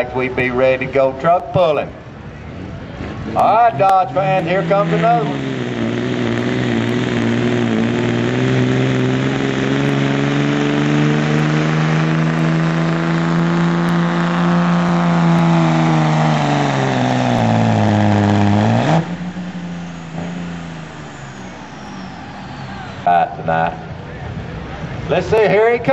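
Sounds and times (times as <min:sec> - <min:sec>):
diesel pickup engine at full throttle: 0:00.0 - 0:25.9
engine idling: 0:02.0 - 0:25.0.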